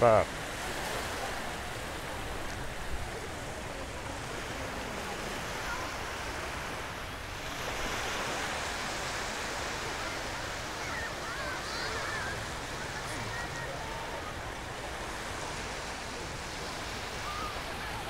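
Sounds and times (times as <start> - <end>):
small waves breaking on sand: 0.0 - 18.0.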